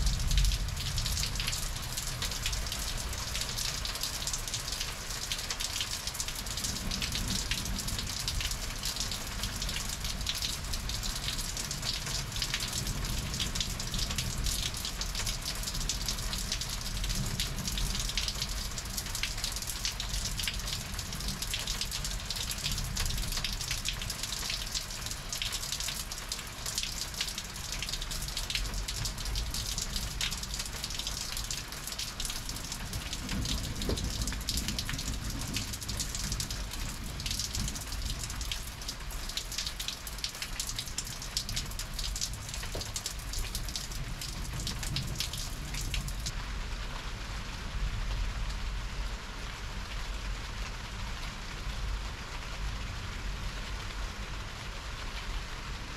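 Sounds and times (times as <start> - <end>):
heavy rain falling: 0.0 - 55.9
raindrops ticking on surfaces: 0.0 - 55.9.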